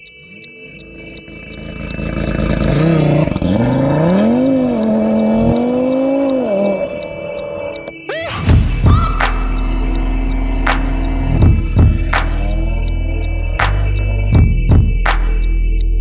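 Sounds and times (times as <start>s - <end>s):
car engine revving: 0.9s - 15.5s.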